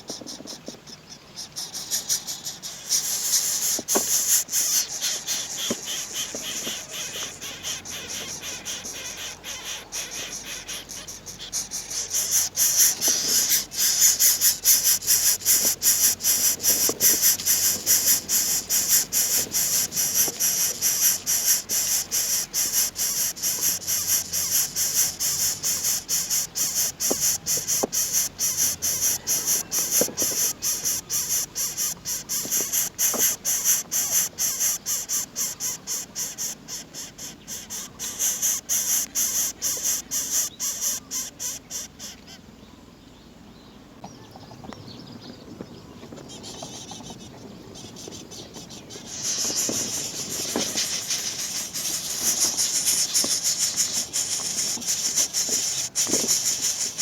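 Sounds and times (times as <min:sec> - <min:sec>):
insects trilling: 0:00.0 - 0:42.5, 0:46.1 - 0:57.0.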